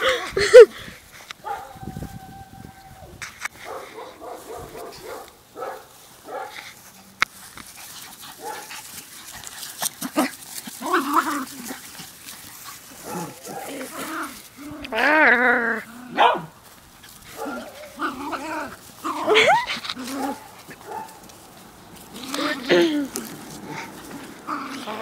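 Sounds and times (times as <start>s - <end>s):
puppies yipping and barking: 3.7s - 15.4s, 16.1s - 25.0s.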